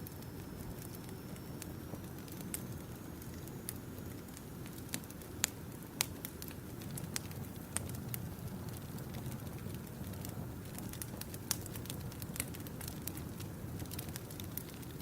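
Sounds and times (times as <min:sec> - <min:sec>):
low rumble of flames: 0:00.0 - 0:15.0
wood crackling and popping: 0:00.0 - 0:15.0.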